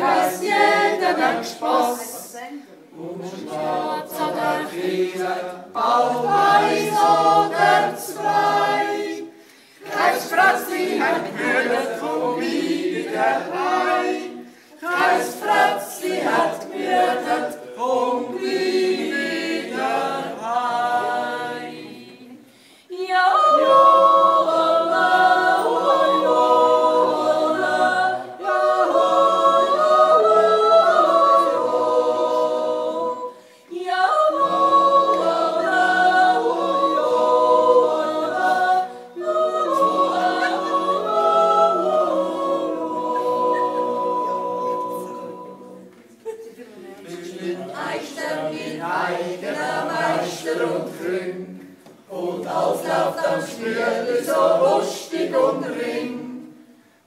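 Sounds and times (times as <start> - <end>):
a cappella choir singing: 0.0 - 57.0.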